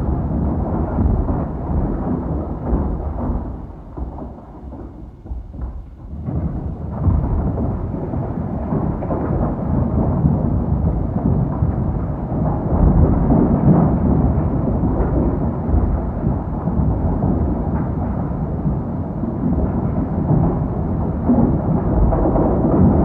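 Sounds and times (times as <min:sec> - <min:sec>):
loud deep rumble: 0:00.0 - 0:23.0.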